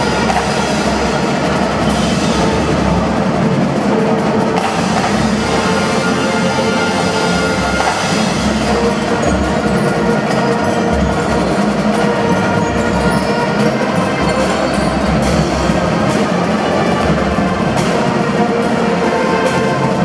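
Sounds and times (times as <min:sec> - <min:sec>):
drums beating: 0:00.0 - 0:20.0
marching band playing: 0:00.0 - 0:20.0.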